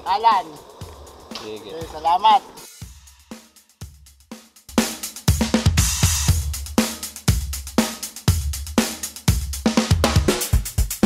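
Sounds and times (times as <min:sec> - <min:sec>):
drum kit beat: 0:00.0 - 0:11.0.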